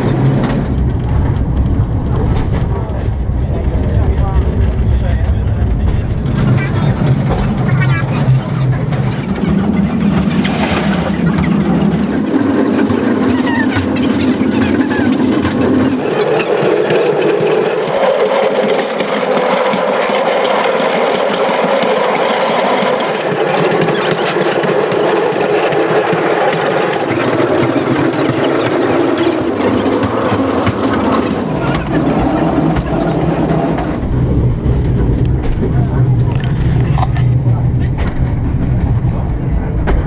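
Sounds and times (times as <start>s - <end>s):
train engine and running gear drone: 0.0s - 40.0s.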